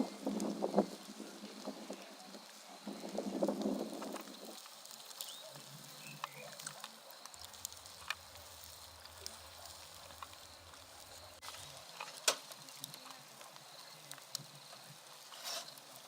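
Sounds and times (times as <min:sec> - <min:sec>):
faint clicks: 0:00.3 - 0:16.0.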